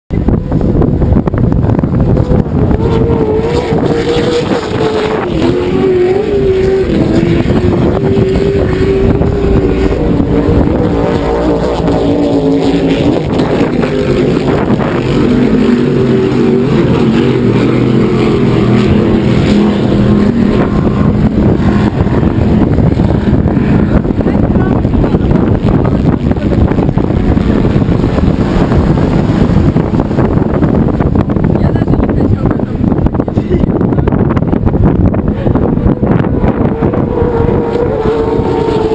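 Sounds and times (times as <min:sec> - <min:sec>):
powerboat engines running hard: 0:00.1 - 0:38.9
wind noise on microphone: 0:00.1 - 0:38.9.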